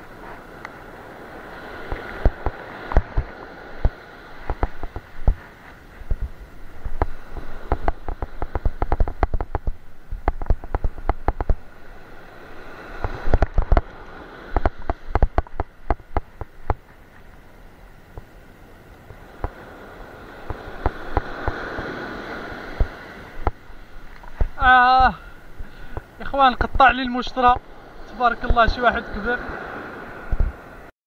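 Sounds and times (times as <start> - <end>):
surf washing: 0.0 - 30.9.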